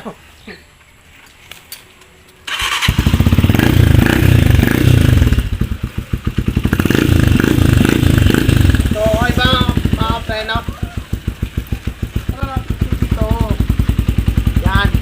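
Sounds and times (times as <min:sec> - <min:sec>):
motorcycle engine revving: 0:02.5 - 0:15.0.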